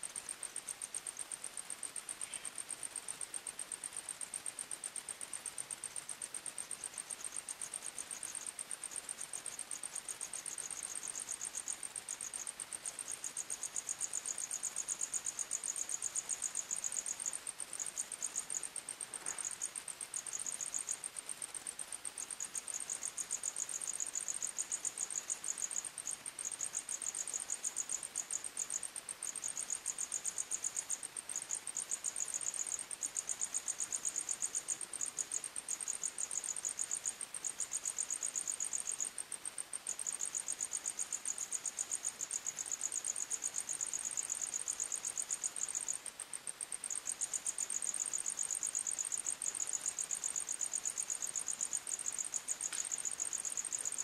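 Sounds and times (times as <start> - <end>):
high-pitched cricket trill: 0.0 - 54.0
lower-pitched cricket trill: 0.0 - 54.0.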